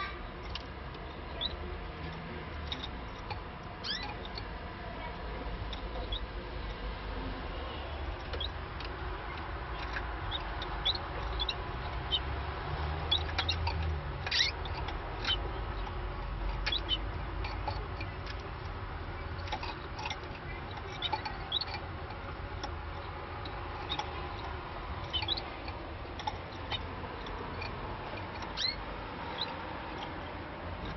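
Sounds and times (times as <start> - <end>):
canaries chirping: 0.0 - 30.9.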